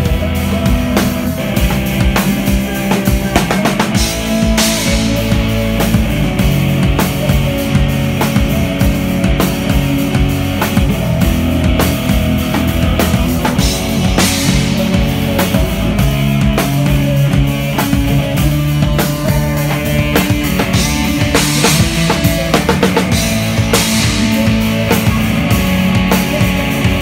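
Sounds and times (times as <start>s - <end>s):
drum kit hit hard: 0.0s - 27.0s
rock band playing live: 0.0s - 27.0s.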